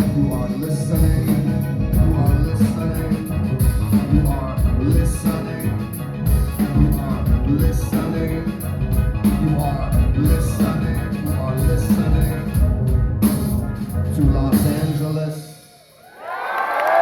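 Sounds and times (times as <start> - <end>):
drums keeping a steady beat: 0.0 - 15.3
heavy bass: 0.0 - 15.3
live rock band playing: 0.0 - 15.7.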